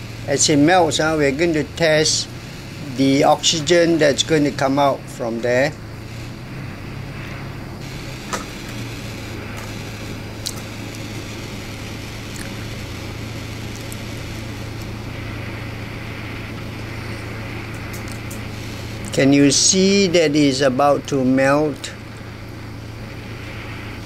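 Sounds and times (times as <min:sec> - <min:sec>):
gas torch hissing: 0:00.0 - 0:24.0.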